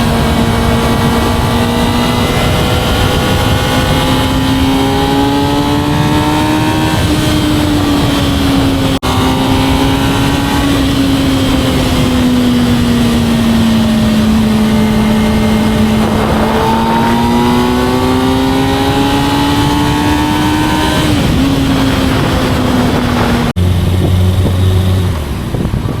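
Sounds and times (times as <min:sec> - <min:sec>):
lower steady engine note: 0:00.0 - 0:26.0
motorcycle engine revving high: 0:00.0 - 0:26.0.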